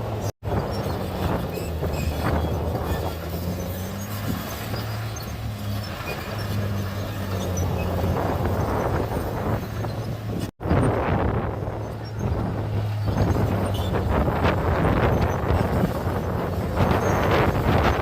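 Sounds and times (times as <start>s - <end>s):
bulldozer diesel engine drone: 0.0s - 18.0s.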